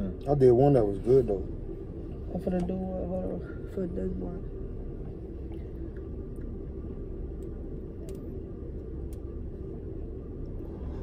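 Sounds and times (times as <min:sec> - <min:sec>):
low rumble inside van: 0:00.0 - 0:11.0.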